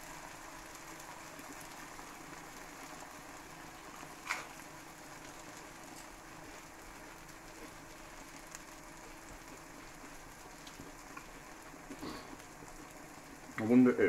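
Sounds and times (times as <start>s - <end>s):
cheese sizzling in a pan: 0.0s - 14.0s.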